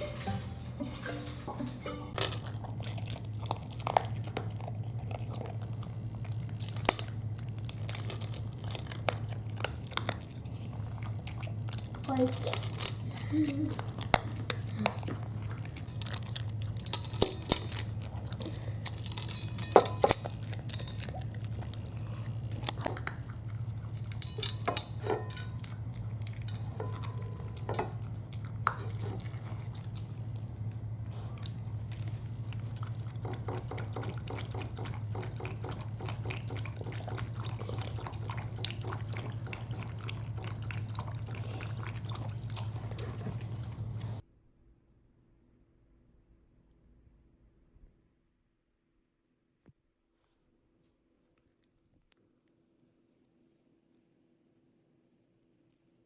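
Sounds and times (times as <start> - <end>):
claws and teeth on plastic: 2.1 - 44.2, 50.2 - 56.0.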